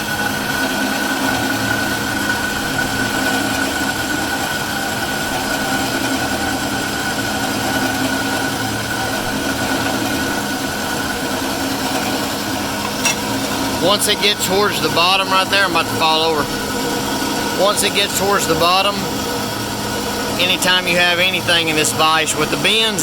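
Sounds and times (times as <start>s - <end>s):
bandsaw cutting metal: 0.0s - 23.0s
high whine: 0.0s - 23.0s.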